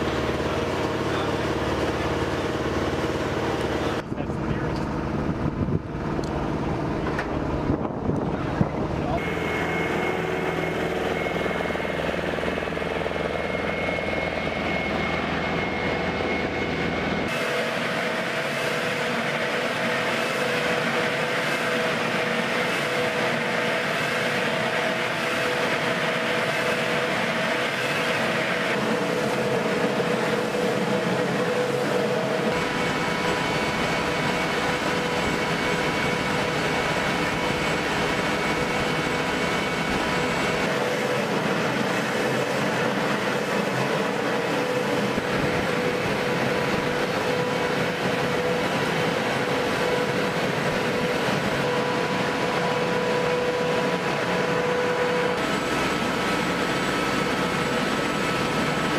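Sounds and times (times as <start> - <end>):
machinery engine noise: 0.0 - 58.9
steady whining tones: 0.0 - 58.9.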